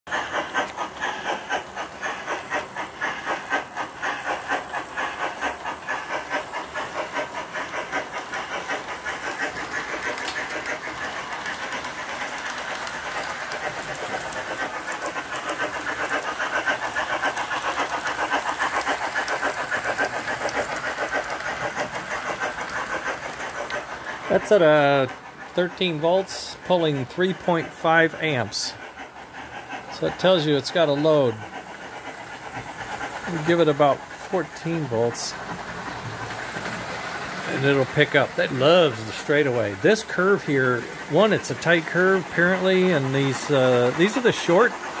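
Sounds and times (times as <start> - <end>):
model train clickety-clack: 0.1 - 45.0.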